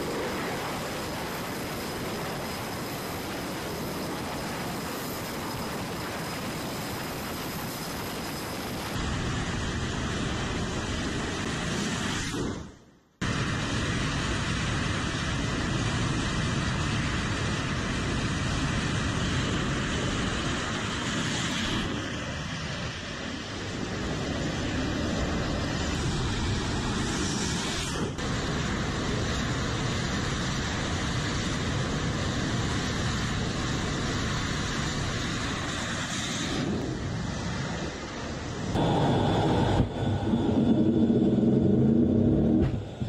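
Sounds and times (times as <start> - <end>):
loud jet engine noise: 0.0 - 43.0.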